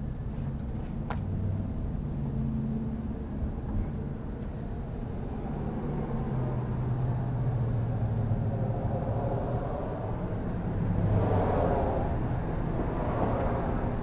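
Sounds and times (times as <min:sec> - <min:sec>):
traffic noise: 0:00.0 - 0:14.0
vehicle engine humming: 0:00.0 - 0:14.0.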